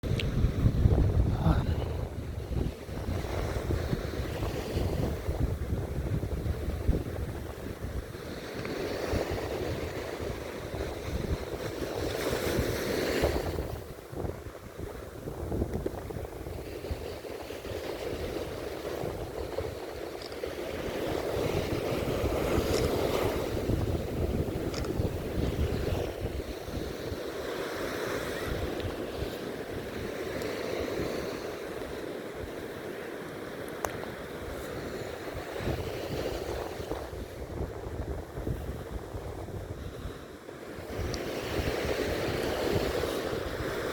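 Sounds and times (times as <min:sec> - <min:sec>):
surf breaking on shore: 0:00.0 - 0:43.9
wind rumbling on microphone: 0:00.0 - 0:43.9.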